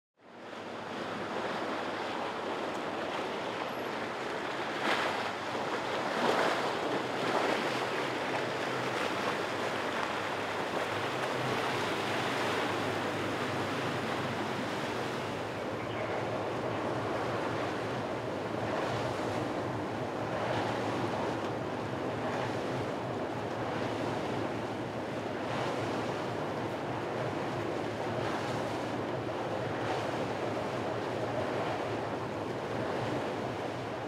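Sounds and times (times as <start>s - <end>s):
river water: 0.2s - 34.0s
wind: 0.2s - 34.0s.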